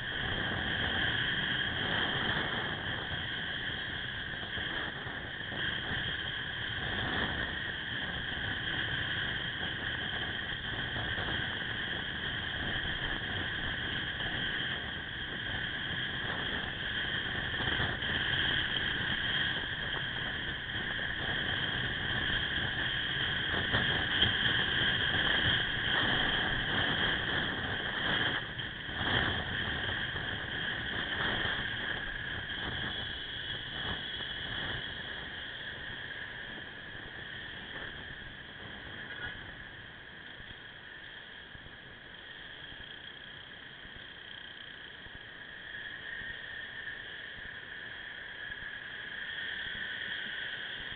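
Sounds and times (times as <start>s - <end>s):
motorcycle riding noise: 0.0s - 50.9s.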